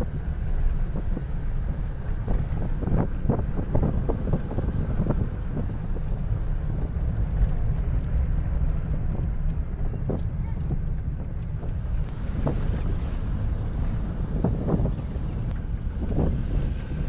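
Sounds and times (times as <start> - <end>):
car engine and tyres rumbling: 0.0 - 17.0
wind buffeting microphone: 0.0 - 17.0.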